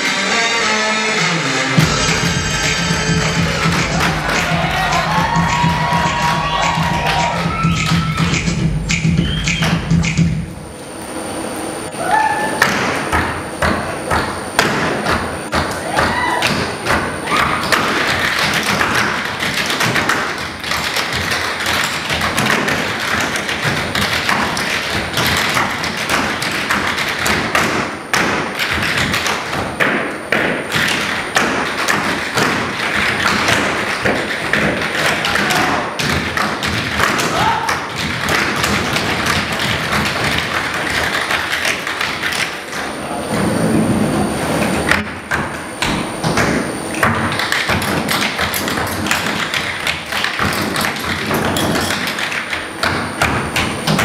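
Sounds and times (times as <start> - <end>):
tap shoes striking stage platforms: 1.8 - 10.4, 12.6 - 42.6, 44.9 - 54.0.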